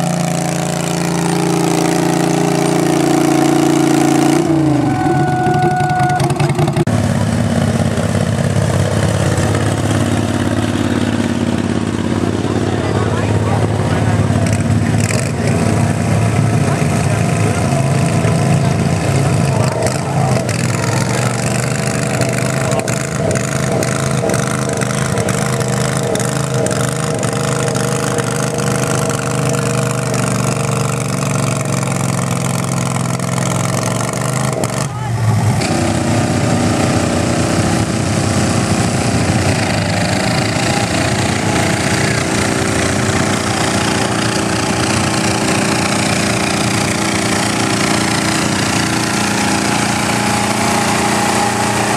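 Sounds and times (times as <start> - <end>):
tractor engine running under load: 0.0 - 51.9.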